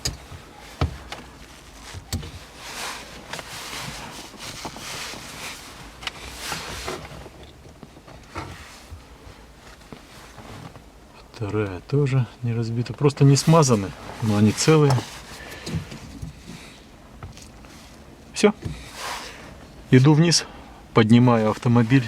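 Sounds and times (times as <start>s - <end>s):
parts rustling and rubbing: 0.0s - 11.0s, 13.1s - 19.9s.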